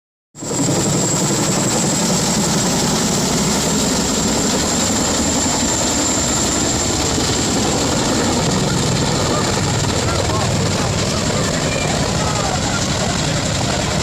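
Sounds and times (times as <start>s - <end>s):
helicopter rotor and engine: 0.4s - 14.0s
high turbine whine: 0.4s - 14.0s.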